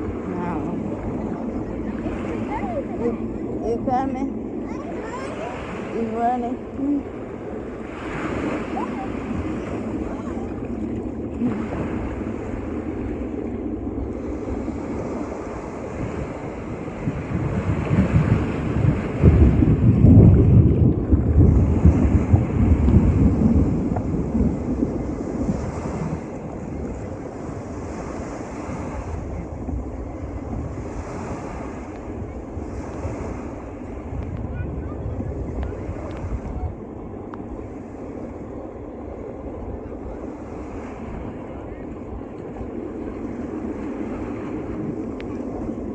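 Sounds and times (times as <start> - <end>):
surf washing: 0.0 - 45.9
wind buffeting microphone: 0.0 - 45.9.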